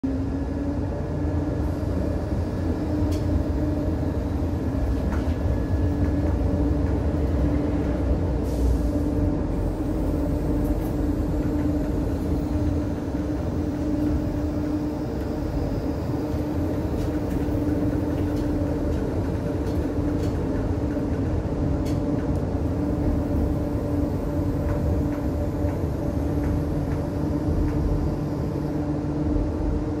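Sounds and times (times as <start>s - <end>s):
tram interior hum: 0.0s - 30.0s.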